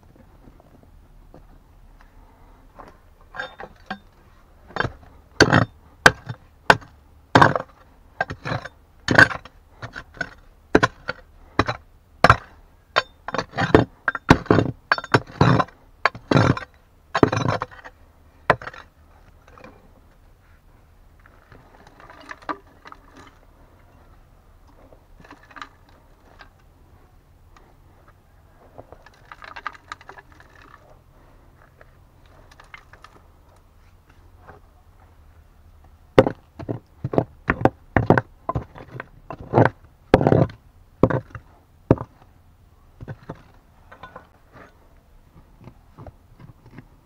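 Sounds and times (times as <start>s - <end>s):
pick striking stones and earth: 0.0s - 20.3s, 21.0s - 34.7s, 35.8s - 47.0s
soil and rock scraping: 0.0s - 47.0s.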